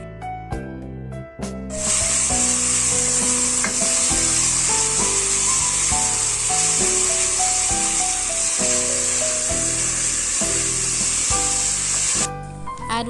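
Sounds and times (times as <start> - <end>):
food sizzling in a saucepan: 1.8 - 12.3.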